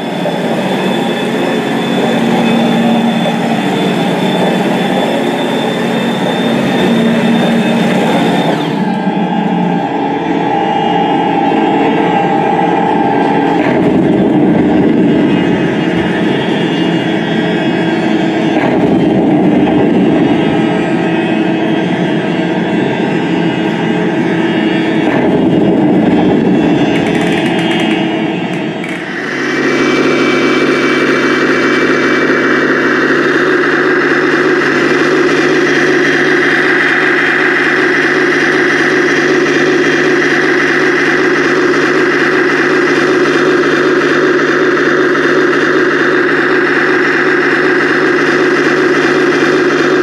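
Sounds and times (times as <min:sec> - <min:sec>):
model tank mechanical drone: 0:00.0 - 0:50.0.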